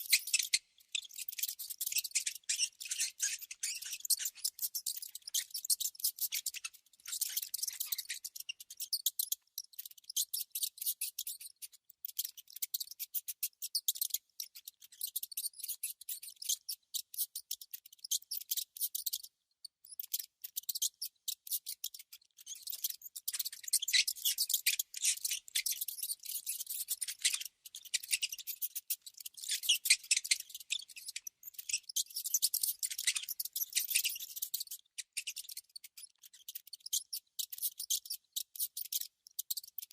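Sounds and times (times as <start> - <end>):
mouse clicking and scratching: 0.0 - 39.9.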